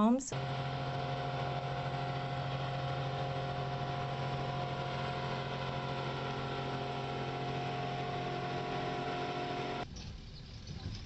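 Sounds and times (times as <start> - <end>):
engine droning steadily: 0.3 - 9.9.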